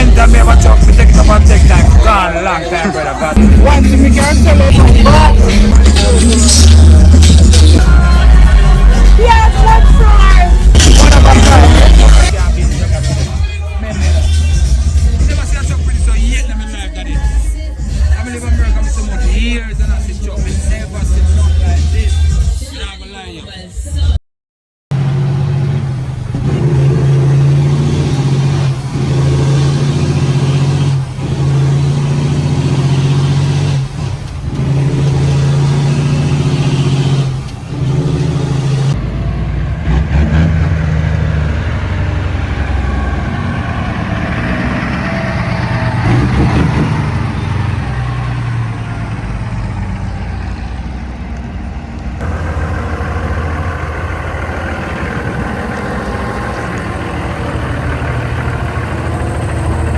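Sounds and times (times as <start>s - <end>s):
truck diesel engine revving: 0.0s - 22.4s, 24.9s - 59.9s.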